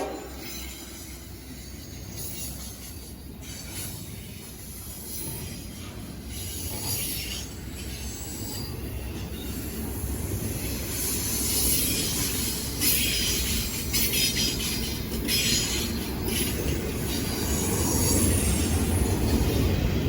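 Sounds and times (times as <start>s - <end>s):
train cars rumbling on rails: 0.0s - 20.0s.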